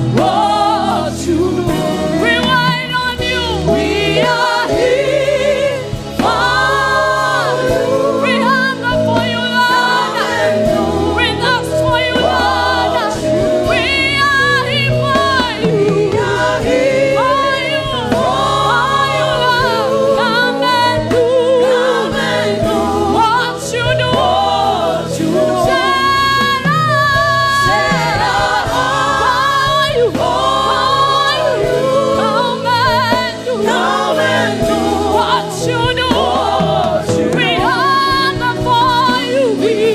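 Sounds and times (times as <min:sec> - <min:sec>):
choir singing gospel: 0:00.0 - 0:39.9
instrumental accompaniment: 0:00.0 - 0:39.9.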